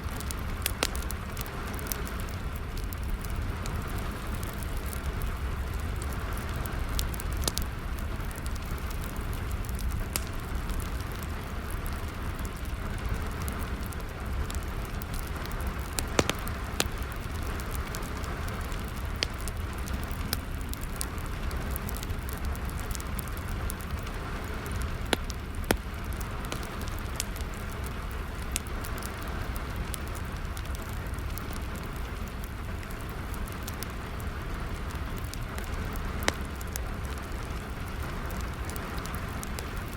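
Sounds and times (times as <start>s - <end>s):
rain hissing: 0.0s - 39.9s
wood fire crackling: 0.0s - 39.9s.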